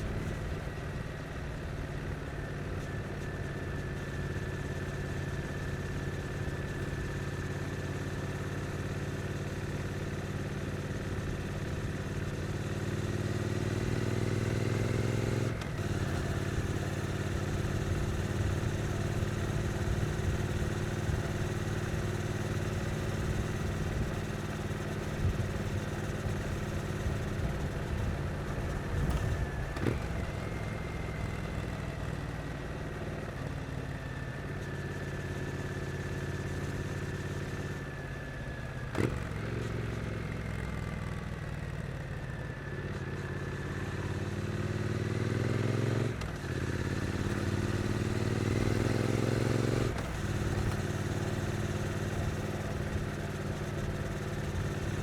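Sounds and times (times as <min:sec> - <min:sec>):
motorcycle engine at low speed: 0:00.0 - 0:55.0.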